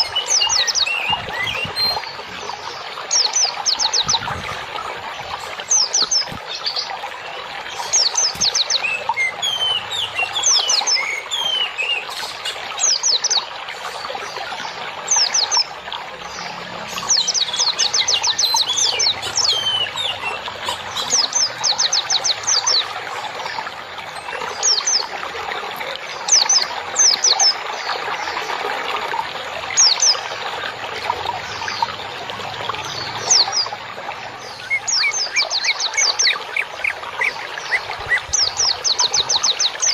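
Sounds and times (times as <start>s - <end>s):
songbirds chirping: 0.0s - 39.9s
trickling water: 0.0s - 39.9s.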